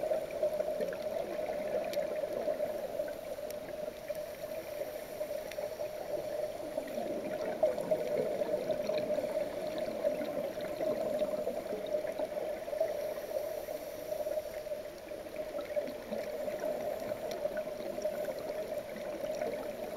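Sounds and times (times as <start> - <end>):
muffled gurgling water: 0.0 - 19.9.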